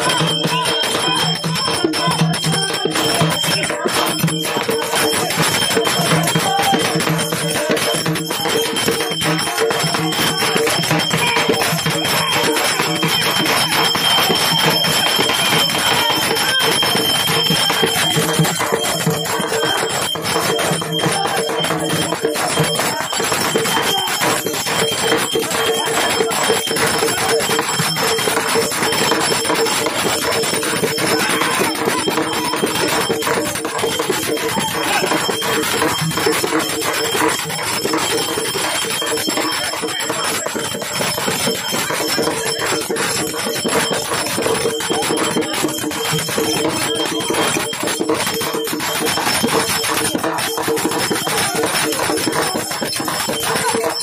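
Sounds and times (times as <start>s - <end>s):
rapid drum beating: 0.0s - 54.0s
ringing tones: 0.0s - 54.0s.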